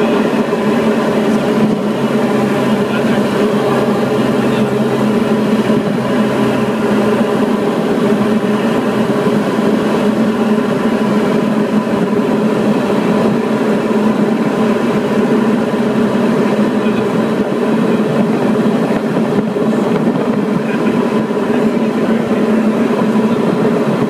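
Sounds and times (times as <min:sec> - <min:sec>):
plane engine and propeller droning: 0:00.0 - 0:24.0.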